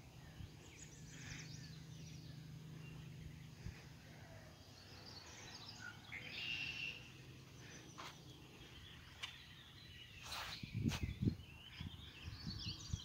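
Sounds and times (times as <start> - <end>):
faint high bird chirps: 0.0 - 13.0.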